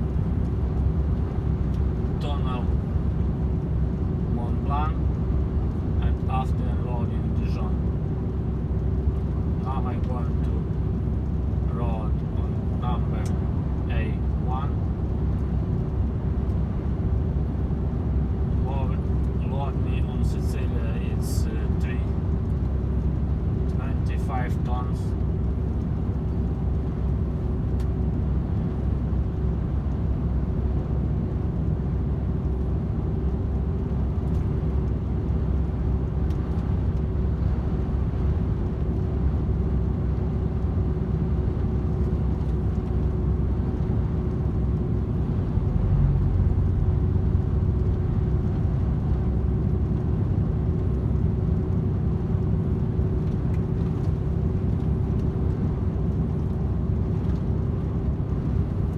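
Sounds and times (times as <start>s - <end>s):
road noise: 0.0s - 58.9s
truck engine cruising: 0.0s - 58.9s.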